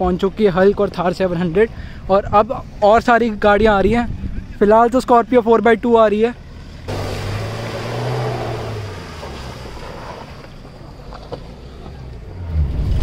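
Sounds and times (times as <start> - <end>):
suv engine humming: 0.0 - 13.0.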